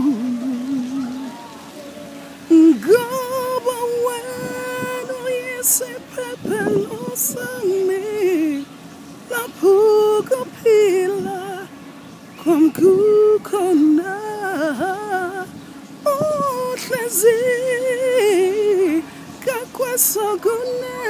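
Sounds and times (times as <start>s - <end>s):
person singing slow melody: 0.0s - 8.7s, 9.3s - 21.0s.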